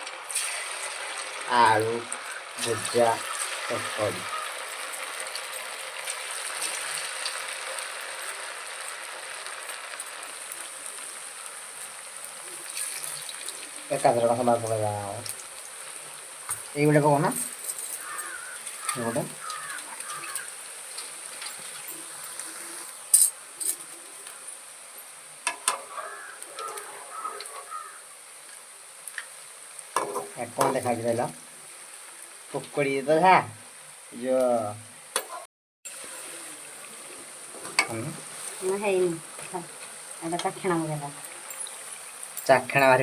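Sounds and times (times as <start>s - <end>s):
frying in hot oil: 0.0s - 43.0s.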